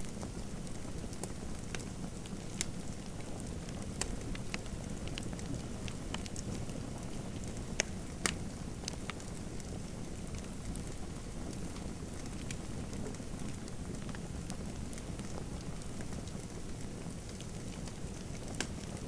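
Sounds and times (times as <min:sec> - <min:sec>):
fire crackling and popping: 0:00.0 - 0:19.0
low rumble of burning wood: 0:00.0 - 0:19.0.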